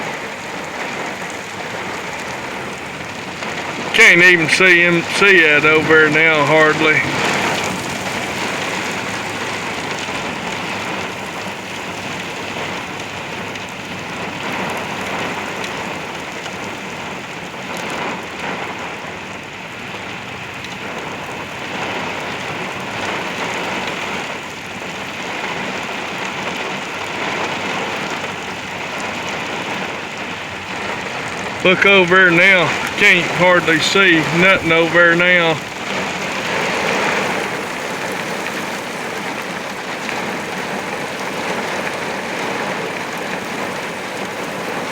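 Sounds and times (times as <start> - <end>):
heavy rain beating on a vehicle: 0.0 - 44.9.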